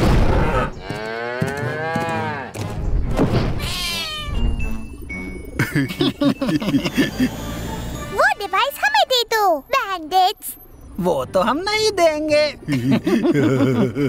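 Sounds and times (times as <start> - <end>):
background music: 1.6 - 14.0.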